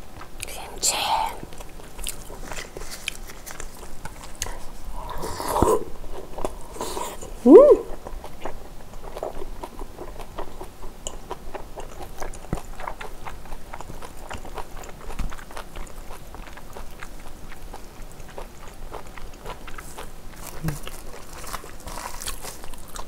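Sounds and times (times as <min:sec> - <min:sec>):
close-miked chewing: 0:00.0 - 0:23.0.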